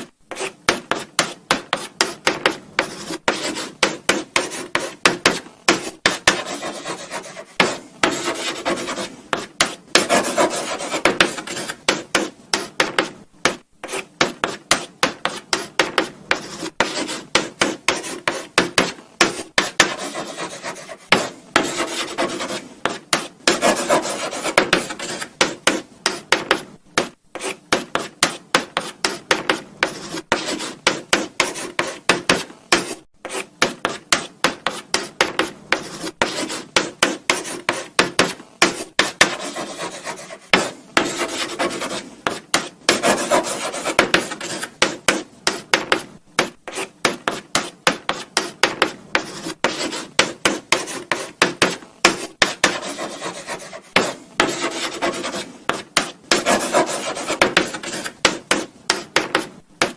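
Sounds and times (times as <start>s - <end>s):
chalk scratching on blackboard: 0.0s - 59.9s.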